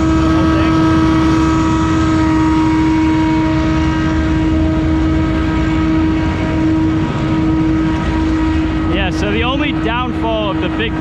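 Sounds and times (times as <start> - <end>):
blower engine whining: 0.0 - 11.0.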